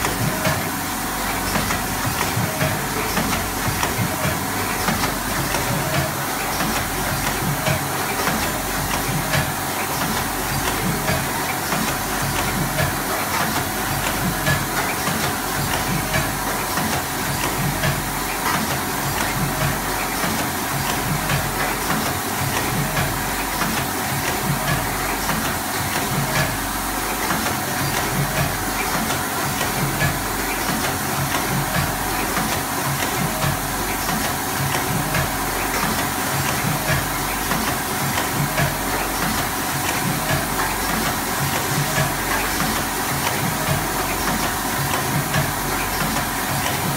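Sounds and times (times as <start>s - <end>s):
constant machine hiss: 0.0s - 46.9s.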